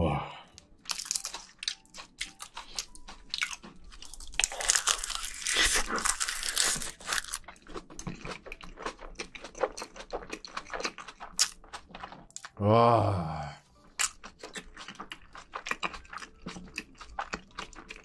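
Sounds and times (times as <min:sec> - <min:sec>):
chewing with wet crunches: 0:00.6 - 0:12.6, 0:13.8 - 0:18.0.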